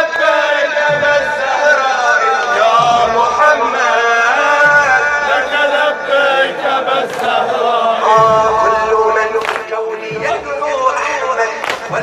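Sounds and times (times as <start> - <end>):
men chanting in long notes: 0.0 - 12.0.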